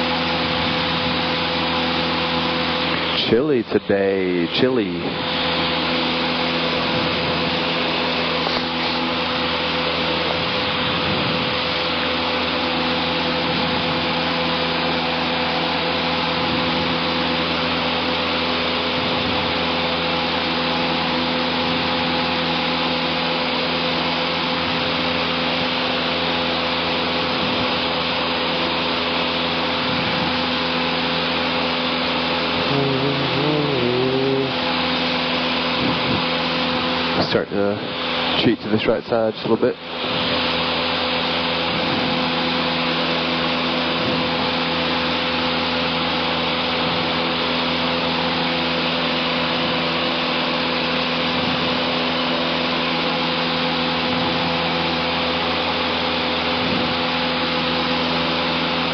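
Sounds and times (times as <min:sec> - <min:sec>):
light aircraft engine droning: 0:00.0 - 0:58.9.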